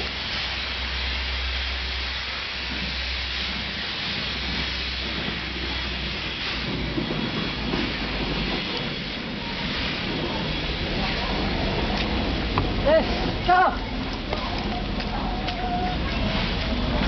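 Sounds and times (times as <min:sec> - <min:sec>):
train rushing past on rails: 0:00.0 - 0:17.0.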